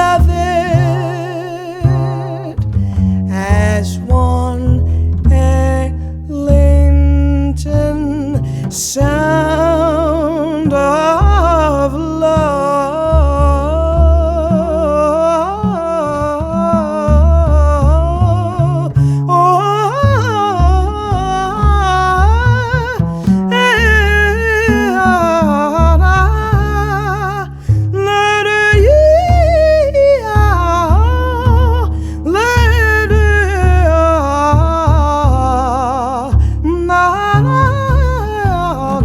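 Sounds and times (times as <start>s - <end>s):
low bass notes: 0.0s - 39.0s
woman singing wordless melody: 0.0s - 39.0s.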